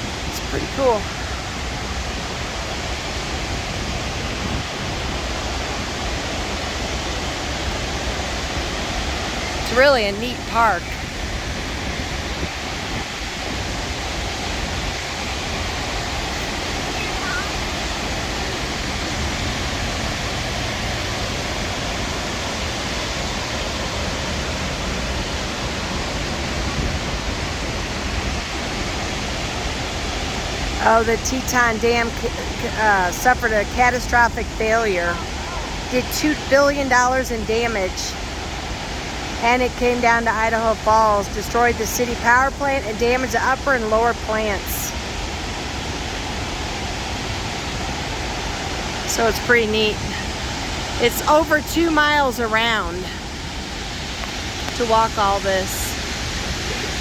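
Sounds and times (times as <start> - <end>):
water rushing over dam falls: 0.0 - 57.0.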